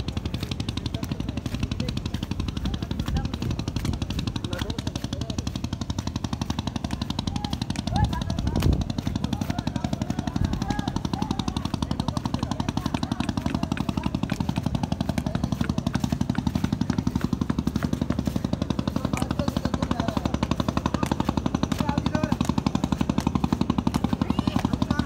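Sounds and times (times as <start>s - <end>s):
boat engine chugging: 0.0s - 25.0s.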